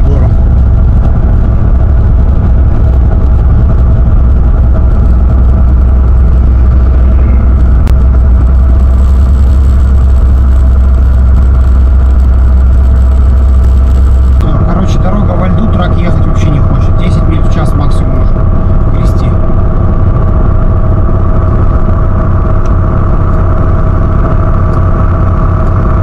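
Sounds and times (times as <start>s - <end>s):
diesel truck engine drone: 0.0s - 26.0s.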